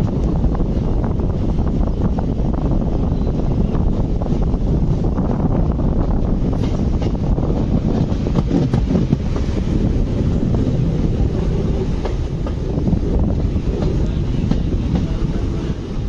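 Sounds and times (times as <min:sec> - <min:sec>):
train coach rumbling: 0:00.0 - 0:16.0
wind buffeting the microphone: 0:00.0 - 0:16.0.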